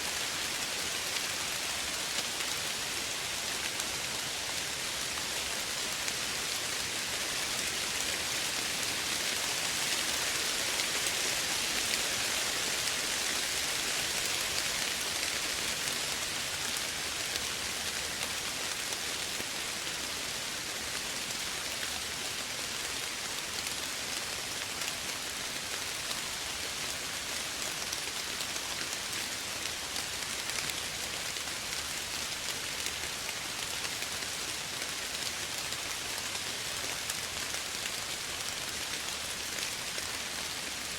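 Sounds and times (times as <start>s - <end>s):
soft rain falling: 0.0s - 40.9s.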